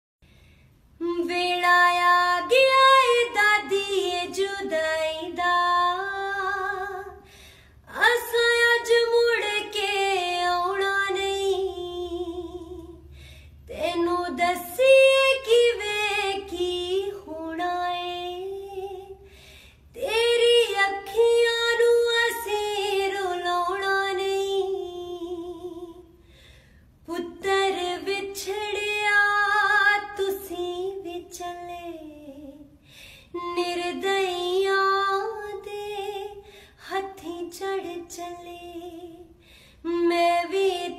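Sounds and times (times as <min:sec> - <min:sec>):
woman singing unaccompanied: 0:01.0 - 0:07.3, 0:07.9 - 0:13.1, 0:13.7 - 0:19.2, 0:20.0 - 0:26.1, 0:27.0 - 0:32.7, 0:33.3 - 0:40.9.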